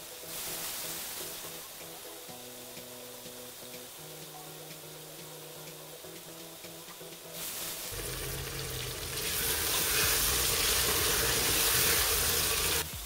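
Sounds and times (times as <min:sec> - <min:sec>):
food sizzling in hot oil: 0:00.1 - 0:06.7, 0:07.3 - 0:13.0.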